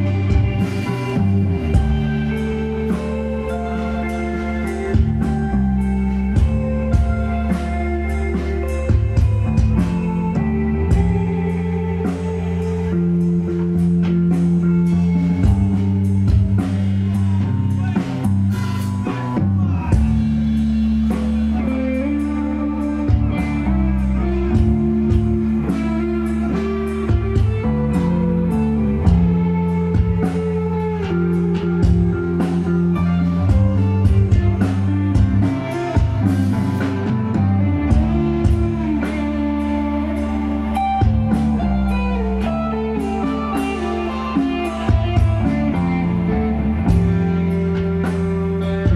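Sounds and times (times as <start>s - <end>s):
bass guitar: 0.0s - 48.9s
drum kit beat: 0.0s - 48.9s
electric guitar: 0.0s - 48.9s.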